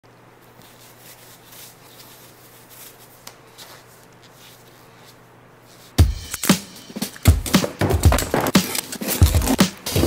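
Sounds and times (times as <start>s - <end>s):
gloves rustling: 0.3s - 6.0s, 7.5s - 10.0s.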